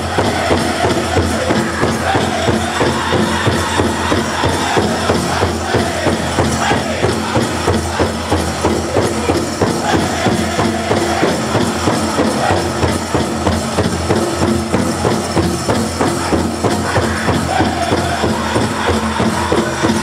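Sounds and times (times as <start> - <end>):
group singing: 0.0 - 20.0
large drum steady beat: 0.0 - 20.0.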